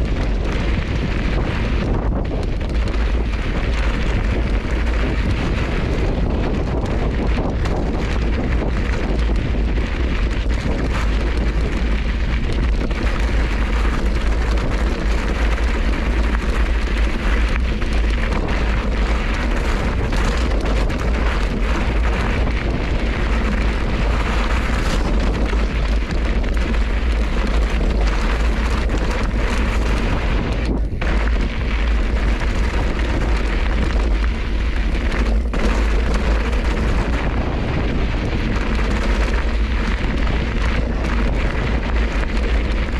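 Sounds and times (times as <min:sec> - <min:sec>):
tyres rolling over rocky trail: 0:00.0 - 0:42.9
wind buffeting microphone: 0:00.0 - 0:42.9.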